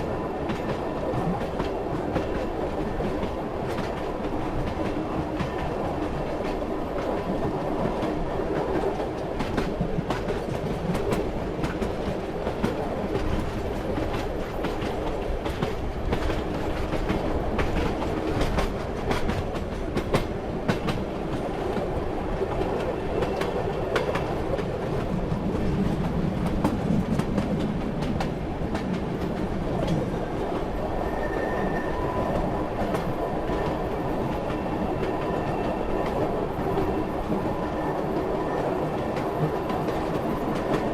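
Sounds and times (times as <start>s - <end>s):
railway carriage rumbling on track: 0.0s - 40.9s.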